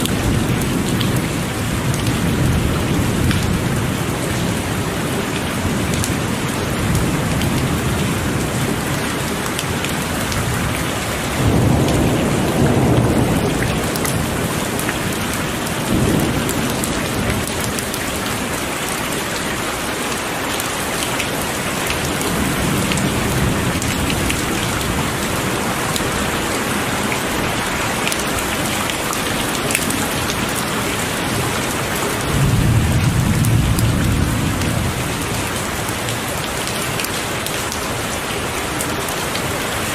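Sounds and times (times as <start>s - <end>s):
low thunder rumbles: 0.0s - 20.3s, 21.4s - 38.2s
heavy rain falling: 0.0s - 39.9s.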